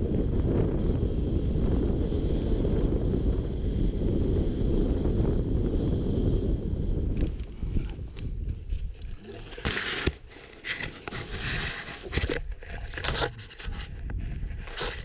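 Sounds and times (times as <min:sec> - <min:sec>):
wind buffeting the microphone: 0:00.0 - 0:15.0.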